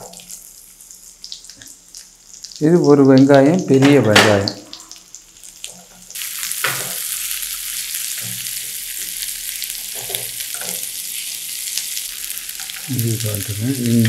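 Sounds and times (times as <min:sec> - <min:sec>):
onion sizzling in a frying pan: 0:00.0 - 0:03.0, 0:03.6 - 0:14.0.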